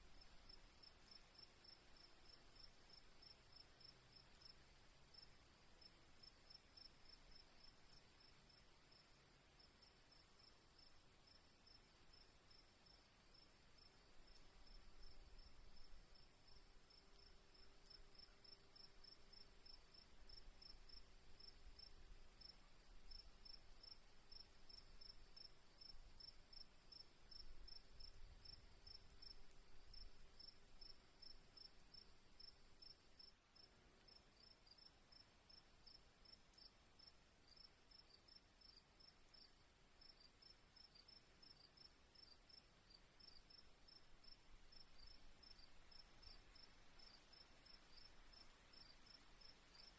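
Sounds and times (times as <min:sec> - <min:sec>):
crickets chirping: 0:00.1 - 0:49.9.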